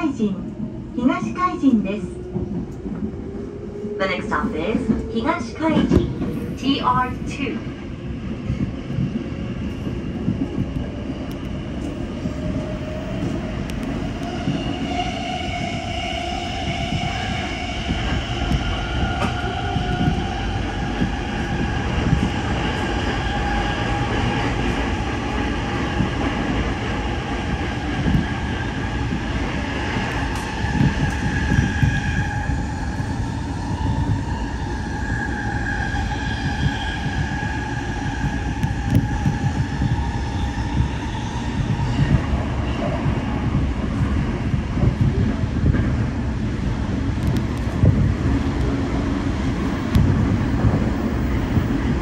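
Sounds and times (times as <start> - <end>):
high train whine: 0.0 - 52.0
train wheels rumbling on rails: 0.0 - 52.0.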